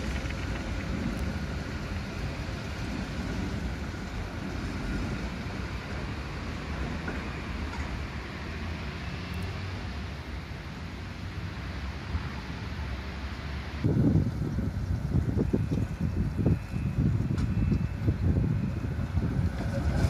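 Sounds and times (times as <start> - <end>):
tram rumbling along track: 0.0 - 20.0.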